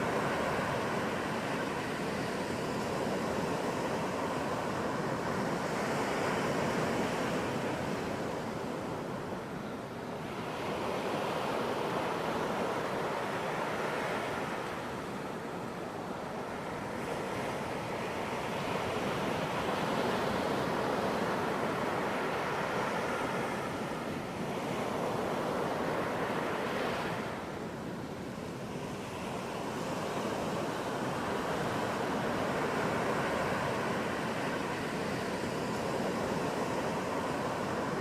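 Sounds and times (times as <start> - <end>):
ocean surf washing onto beach: 0.0 - 38.0.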